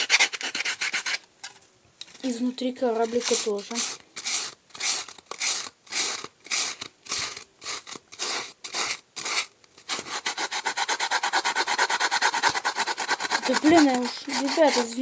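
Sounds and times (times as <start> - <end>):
sandpaper rubbing on foam: 0.0 - 1.2, 3.0 - 15.0.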